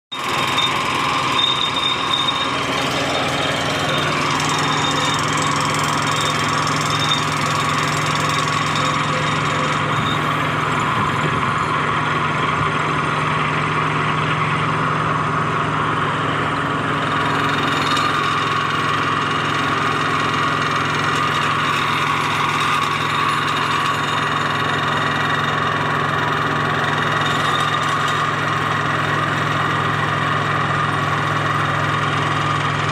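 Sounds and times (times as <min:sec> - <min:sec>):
vibratory pile hammer drone: 0:00.1 - 0:32.9.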